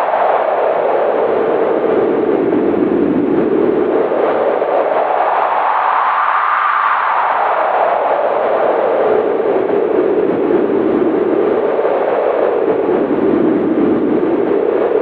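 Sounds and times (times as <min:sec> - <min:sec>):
howling wind: 0:00.0 - 0:15.0.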